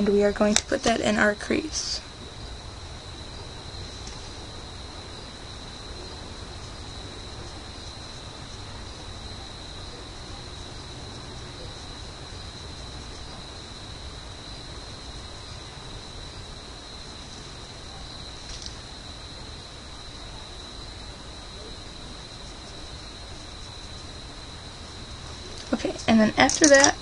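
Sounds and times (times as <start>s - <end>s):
constant hiss: 0.0s - 27.0s.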